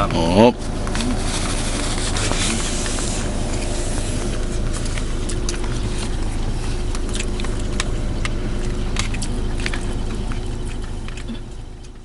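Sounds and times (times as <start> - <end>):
van cabin rumble: 0.0 - 12.0.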